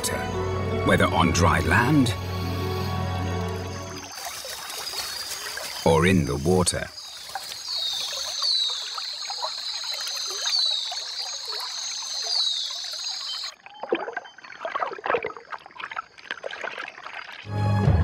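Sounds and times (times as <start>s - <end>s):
river water splashing: 1.0s - 18.0s.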